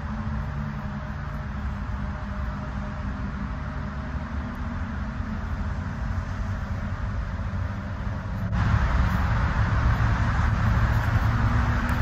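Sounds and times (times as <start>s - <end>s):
outdoor rumble and hiss: 0.0s - 12.0s.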